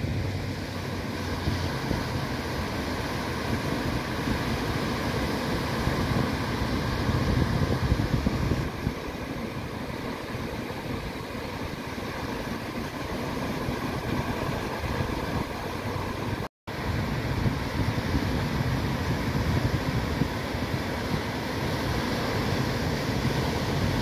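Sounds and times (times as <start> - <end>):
small waves breaking on beach: 0.0 - 24.0
wind rumbling on microphone: 0.0 - 24.0.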